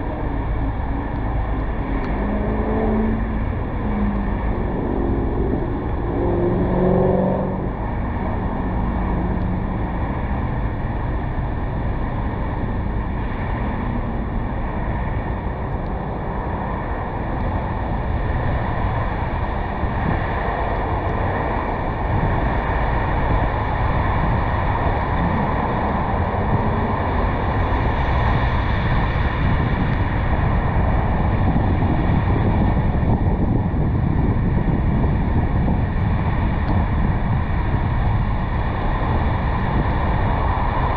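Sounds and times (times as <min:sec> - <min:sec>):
car road noise: 0:00.0 - 0:40.9.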